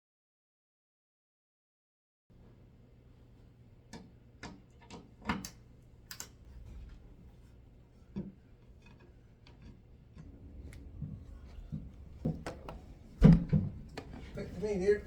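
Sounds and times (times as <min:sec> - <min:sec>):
faint low hum: 0:02.3 - 0:15.0.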